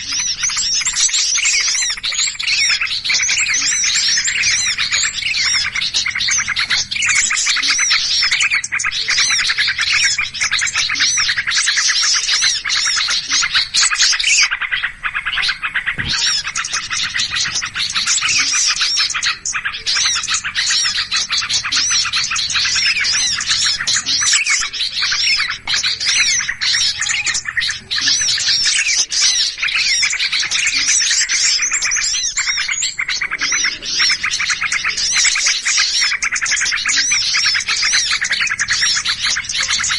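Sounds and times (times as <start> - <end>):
songbirds chirping and squeaking: 0.0 - 39.9.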